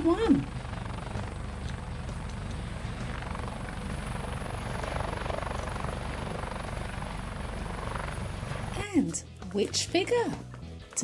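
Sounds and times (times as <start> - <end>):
helicopter rotor chop: 0.0 - 9.2.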